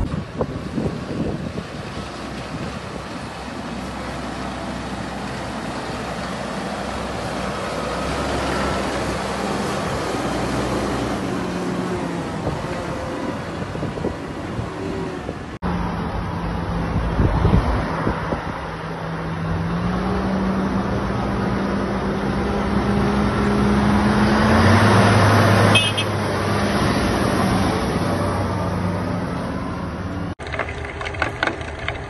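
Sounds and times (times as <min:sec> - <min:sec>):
tractor diesel engine: 0:00.0 - 0:32.0.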